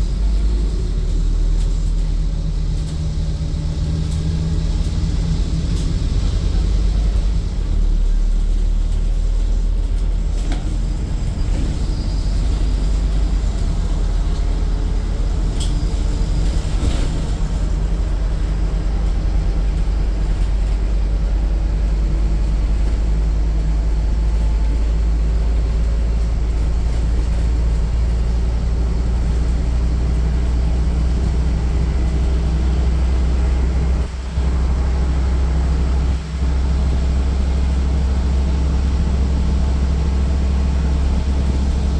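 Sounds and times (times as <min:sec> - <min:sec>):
diesel bus engine drone: 0:00.0 - 0:41.9.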